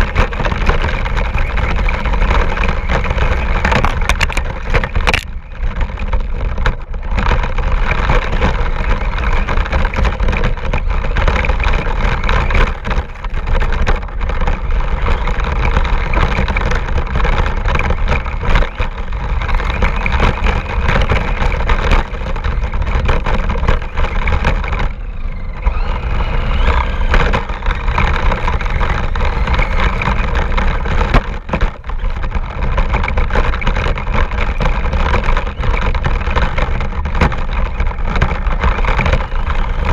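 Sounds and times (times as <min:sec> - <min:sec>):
rc car motor and ground noise: 0:00.0 - 0:39.9.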